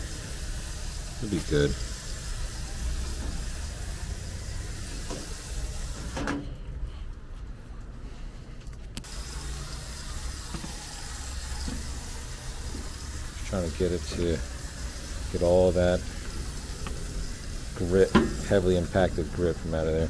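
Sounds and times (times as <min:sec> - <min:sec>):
hose spray hissing: 0:00.0 - 0:06.3, 0:09.0 - 0:20.0.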